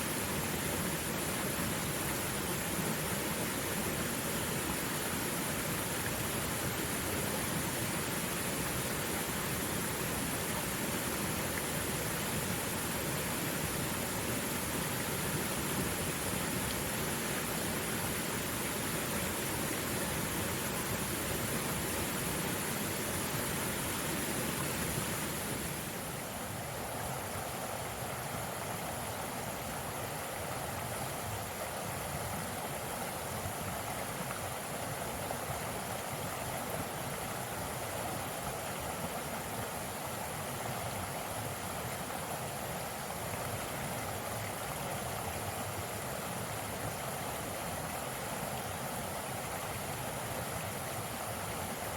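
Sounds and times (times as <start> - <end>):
stream flowing: 0.0 - 51.9.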